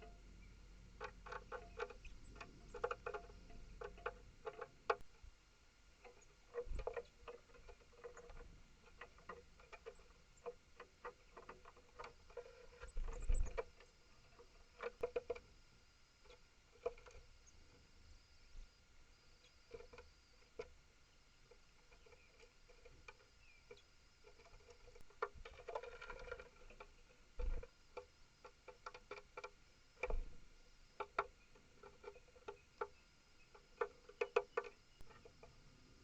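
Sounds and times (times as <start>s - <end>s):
scratching: 0.0s - 5.3s, 5.9s - 17.9s, 19.3s - 36.0s.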